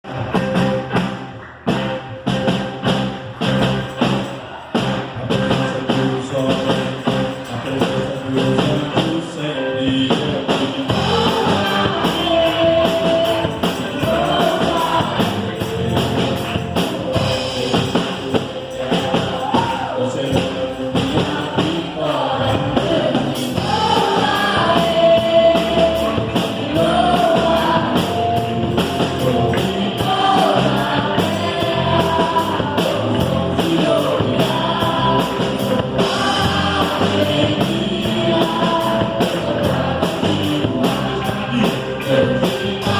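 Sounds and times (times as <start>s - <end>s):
gospel band with singing: 0.0s - 42.9s.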